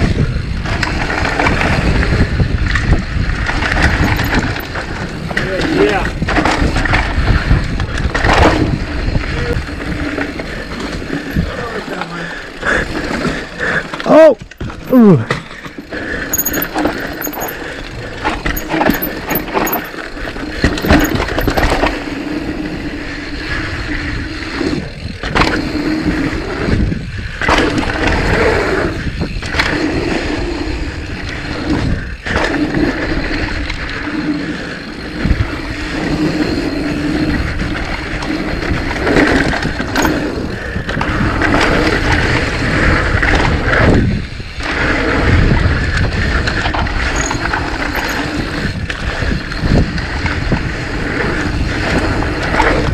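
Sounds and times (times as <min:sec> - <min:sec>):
bike rattling: 0:00.0 - 0:52.9
tyre and wind noise: 0:00.0 - 0:52.9.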